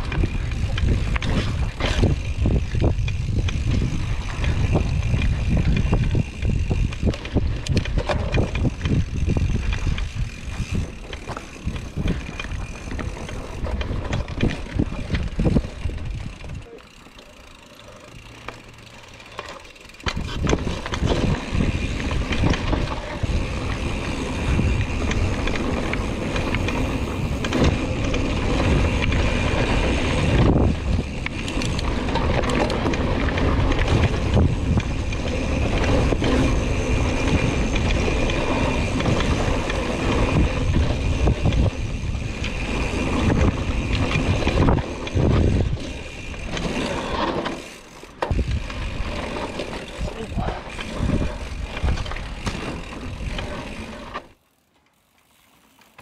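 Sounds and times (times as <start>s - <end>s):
bike clattering and rattling: 0.0s - 56.0s
bike tyre rumble on dirt: 0.0s - 56.0s.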